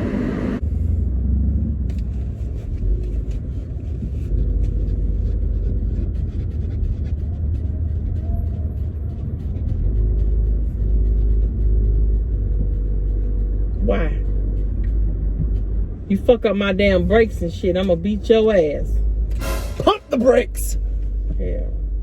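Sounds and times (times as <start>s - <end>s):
car interior road and engine noise: 0.0s - 22.0s.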